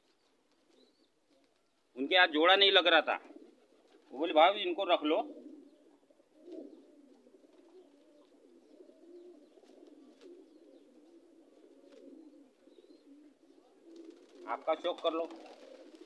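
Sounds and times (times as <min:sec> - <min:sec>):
pigeons cooing: 0:00.0 - 0:01.7, 0:02.6 - 0:16.0.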